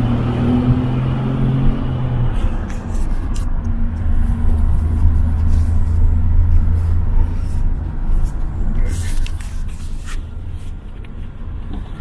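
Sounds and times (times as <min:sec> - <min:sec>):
car engine hum: 0:00.0 - 0:12.0
road rumble: 0:00.0 - 0:12.0.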